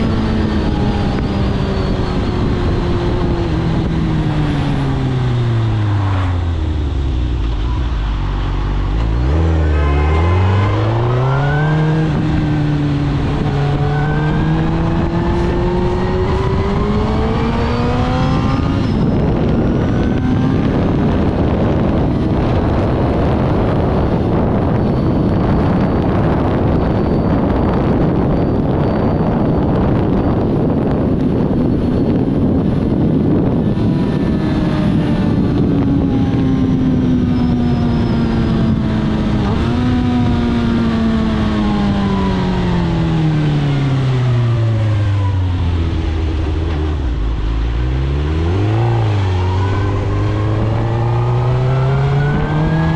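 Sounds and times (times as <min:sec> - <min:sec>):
motorcycle engine revving: 0:00.0 - 0:52.9
wind rushing: 0:00.0 - 0:52.9.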